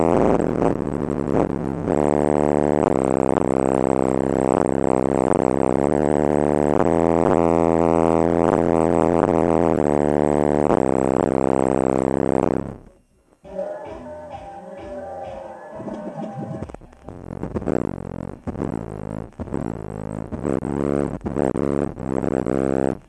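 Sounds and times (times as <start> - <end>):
loud bass tone drone: 0.0 - 23.0.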